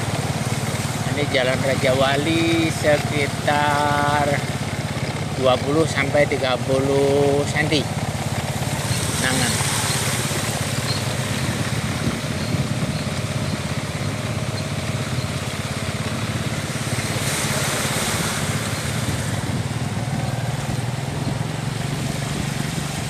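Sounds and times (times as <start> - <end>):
motorcycle engine running: 0.0 - 23.0
tyres washing through water: 0.0 - 23.0.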